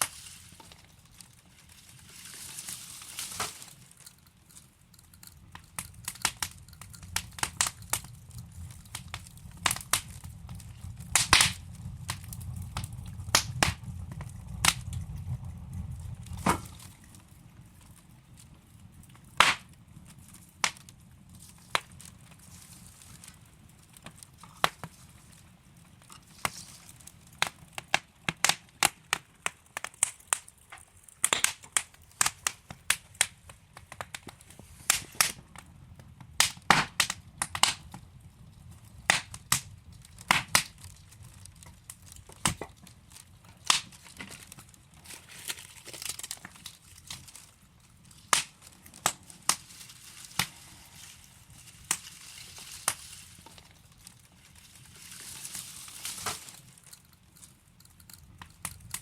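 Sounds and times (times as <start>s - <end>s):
sharp pops of fire: 0.0s - 1.4s, 3.0s - 25.0s, 25.8s - 54.2s, 55.8s - 59.0s
low steady hiss: 0.0s - 59.0s
wood fire crackling: 0.0s - 59.0s.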